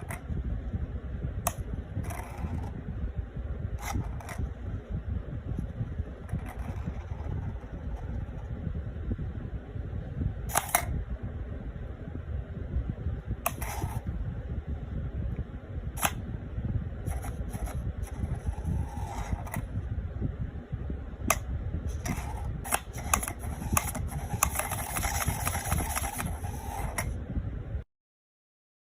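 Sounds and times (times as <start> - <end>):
steady low rumble: 0.0 - 27.9.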